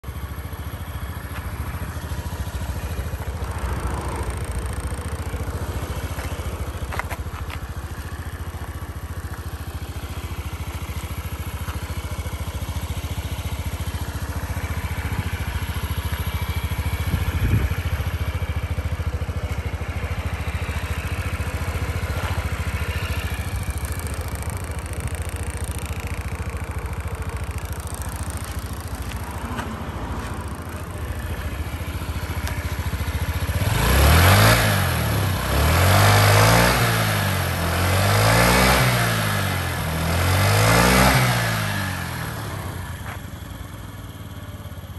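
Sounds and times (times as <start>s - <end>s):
scooter engine idling: 0.0s - 44.9s.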